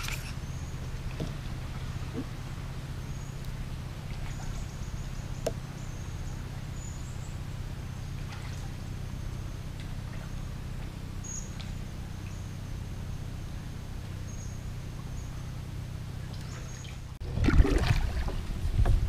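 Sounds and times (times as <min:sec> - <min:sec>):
small engine droning: 0:00.0 - 0:19.0.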